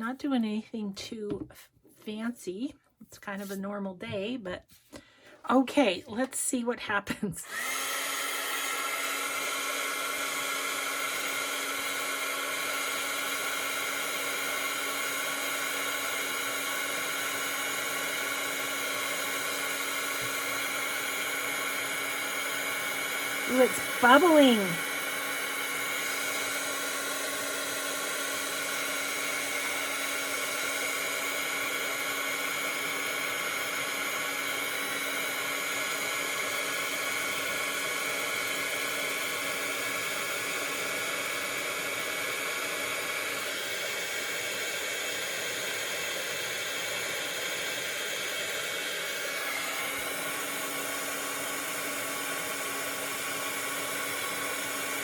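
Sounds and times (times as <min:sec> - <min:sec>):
heat tool fan whirring: 0:07.4 - 0:55.0.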